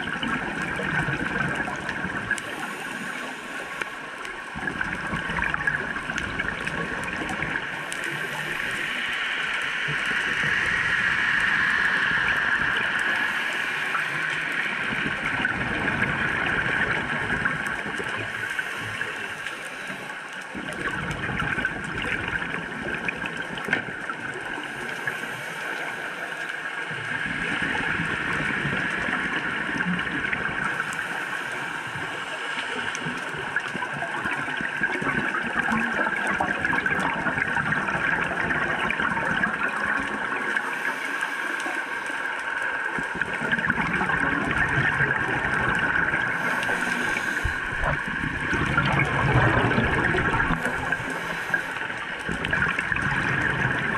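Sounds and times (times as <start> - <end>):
gurgling regulator bubbles: 0.0 - 53.9
steady underwater hiss: 0.0 - 53.9.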